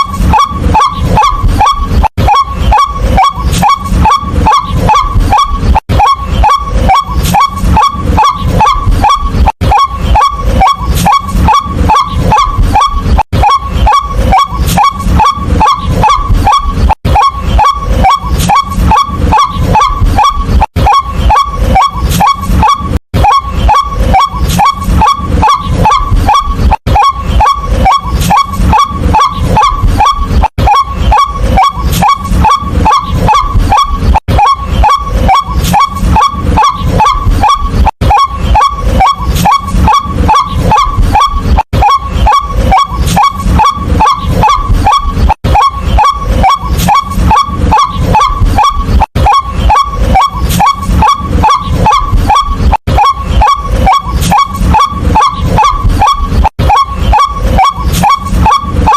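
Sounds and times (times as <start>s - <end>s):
waterhen calling harsh notes: 0.0s - 58.9s.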